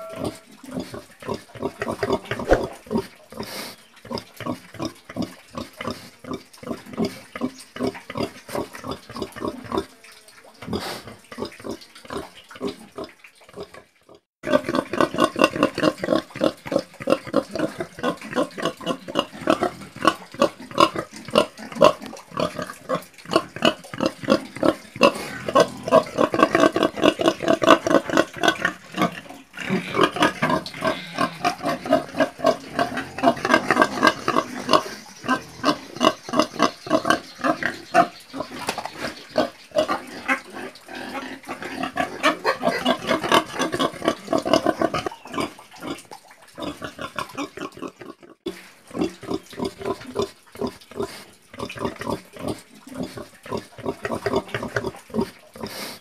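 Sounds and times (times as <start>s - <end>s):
pig grunting: 0.0s - 9.8s, 10.7s - 46.0s.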